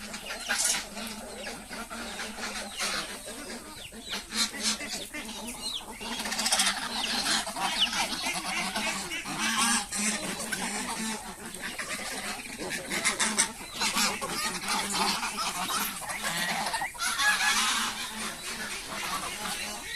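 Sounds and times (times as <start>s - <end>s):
poultry clucking and chirping: 0.0s - 19.9s.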